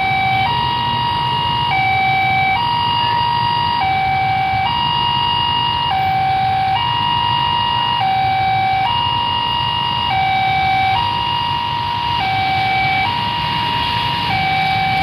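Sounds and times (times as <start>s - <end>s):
two-tone level crossing alarm: 0.0s - 15.0s.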